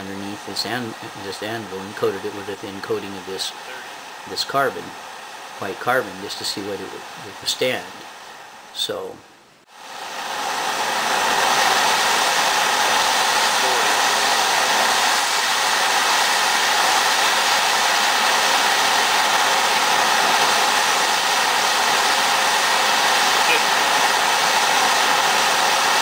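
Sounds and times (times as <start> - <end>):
gas torch flame hissing: 0.0 - 26.0.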